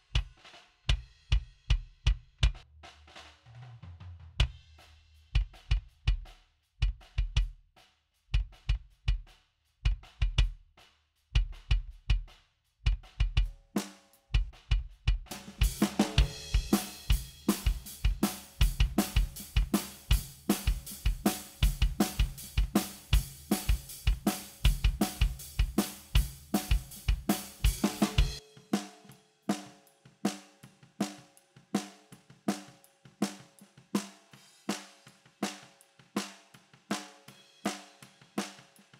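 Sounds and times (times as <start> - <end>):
hi-hat and cymbals: 0.0 - 3.5, 4.4 - 38.9
acoustic drum kit: 0.0 - 7.6, 8.3 - 10.6, 11.3 - 38.9.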